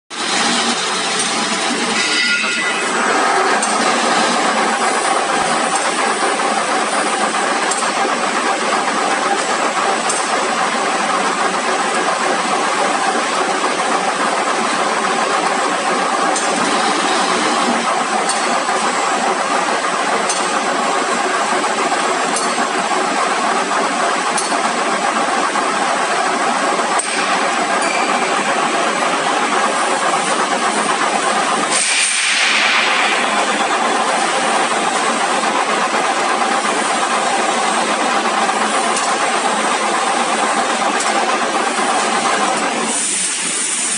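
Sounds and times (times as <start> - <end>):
rope winding machine humming: 0.2 - 31.8, 32.4 - 43.9.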